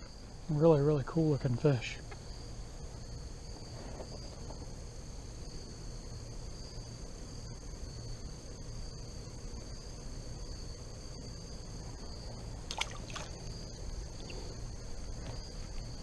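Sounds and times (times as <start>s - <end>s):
crickets chirping: 0.0s - 16.0s
low background rumble: 0.0s - 16.0s.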